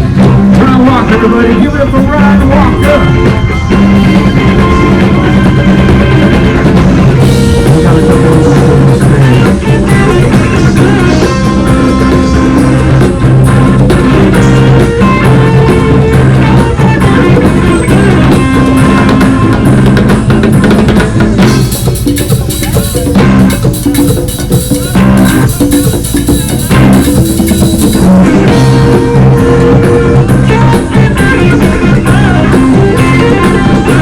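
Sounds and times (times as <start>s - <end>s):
live rock band playing: 0.0s - 34.0s
cymbals: 1.5s - 20.7s, 21.4s - 34.0s.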